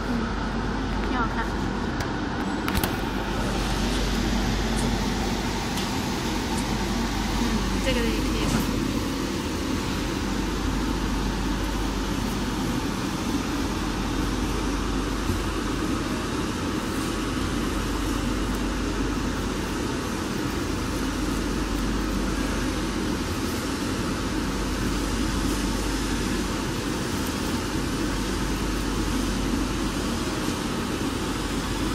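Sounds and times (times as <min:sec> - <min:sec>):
packaging machine whirring: 0:02.5 - 0:31.9.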